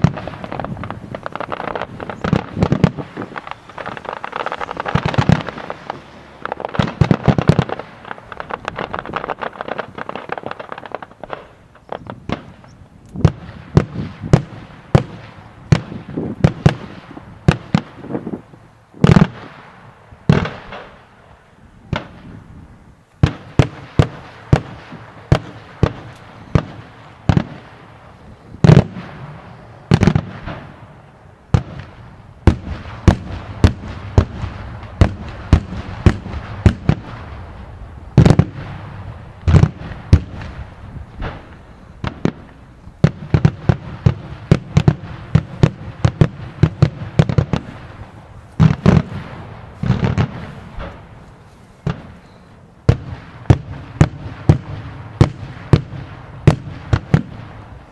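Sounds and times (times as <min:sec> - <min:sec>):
fireworks bangs with echo: 0:00.0 - 0:18.4, 0:19.0 - 0:21.1, 0:21.9 - 0:22.5, 0:23.2 - 0:57.9
crackling rumble: 0:00.0 - 0:57.9.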